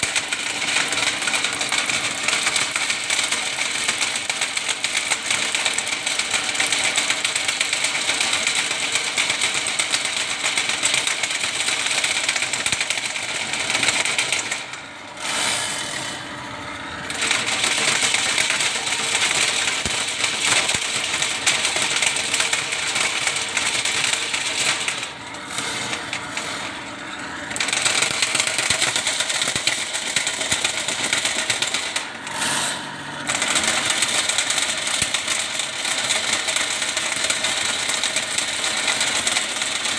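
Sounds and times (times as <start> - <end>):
drain-cleaning machine running: 0.0 - 39.9.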